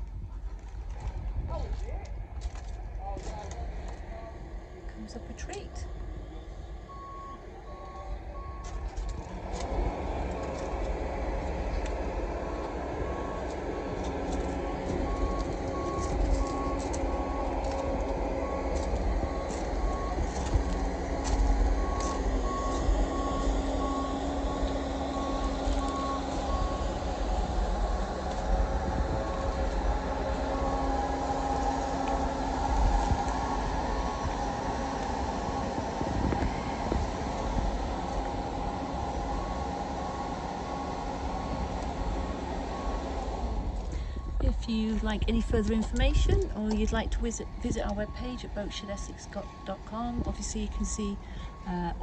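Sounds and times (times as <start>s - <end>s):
vehicle engine running: 0.0s - 52.0s
reversing alarm beeping: 6.3s - 10.1s, 12.3s - 52.0s.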